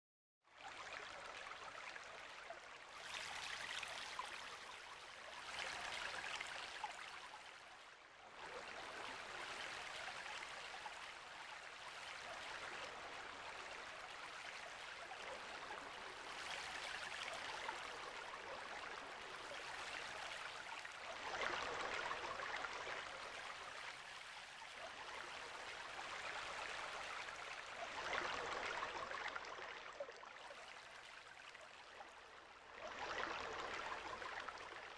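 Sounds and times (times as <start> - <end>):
brook water flowing underwater: 0.5 - 34.9.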